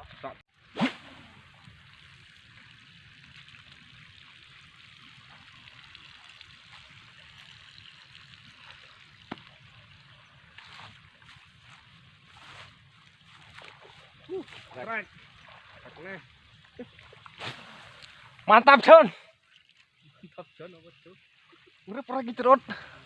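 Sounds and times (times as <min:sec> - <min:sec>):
hiss like trickling water: 0:00.5 - 0:18.5, 0:19.1 - 0:23.0.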